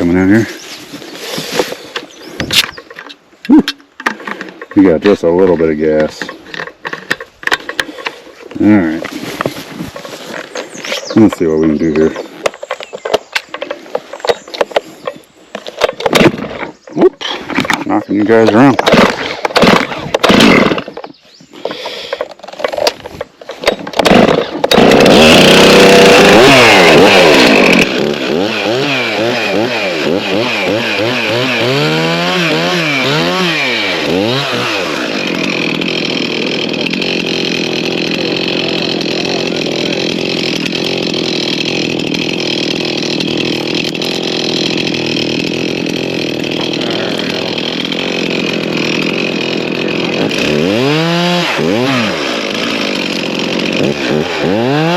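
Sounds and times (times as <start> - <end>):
chainsaw revving: 4.2 - 54.9.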